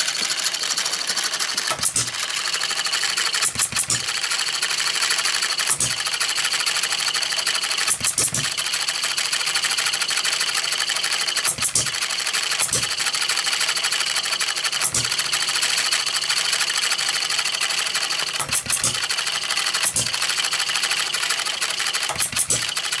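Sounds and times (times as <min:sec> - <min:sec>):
model engine clattering: 0:00.0 - 0:23.0.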